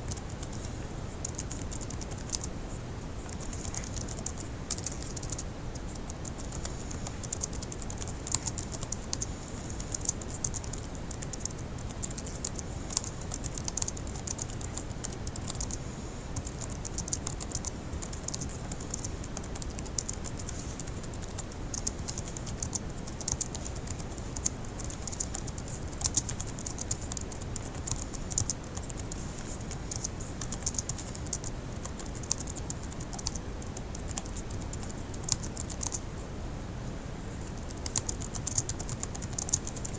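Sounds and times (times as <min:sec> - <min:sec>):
typing on laptop keyboard: 0:00.0 - 0:02.5, 0:03.2 - 0:36.0, 0:37.6 - 0:39.9
faint low hum: 0:00.0 - 0:39.9.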